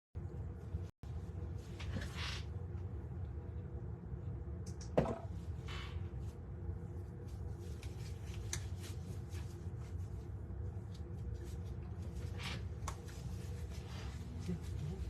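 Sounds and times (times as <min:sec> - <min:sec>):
room noise hum: 0:00.2 - 0:15.0.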